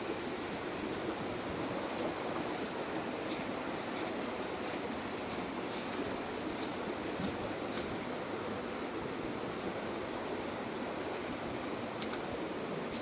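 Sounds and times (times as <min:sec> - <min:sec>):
rushing flooded creek: 0:00.0 - 0:13.0.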